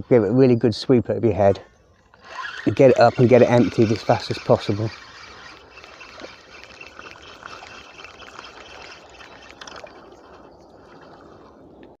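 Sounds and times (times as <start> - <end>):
river water running: 0.8 - 12.0.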